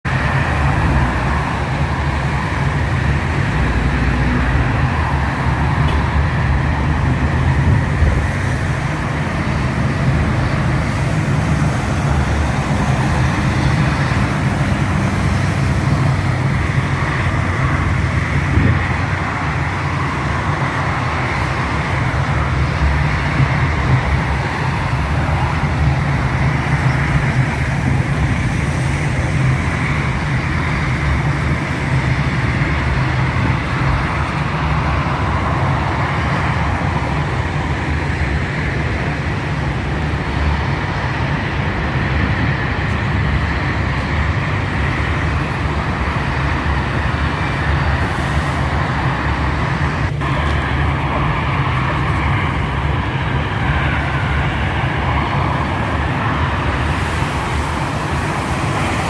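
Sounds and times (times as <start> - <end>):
low road traffic rumble: 0.0 - 59.0.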